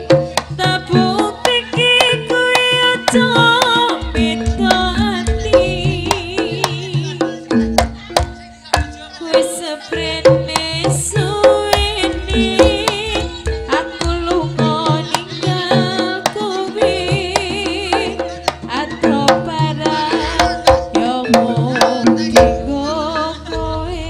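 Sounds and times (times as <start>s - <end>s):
pitched metal percussion: 0.0s - 24.0s
wavering high melody: 0.0s - 24.0s.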